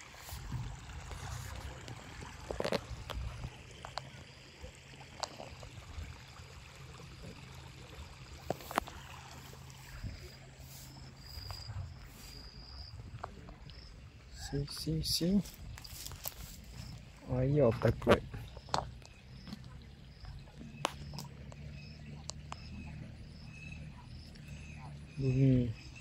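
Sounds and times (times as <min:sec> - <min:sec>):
water flowing in a ditch: 0:00.0 - 0:26.0.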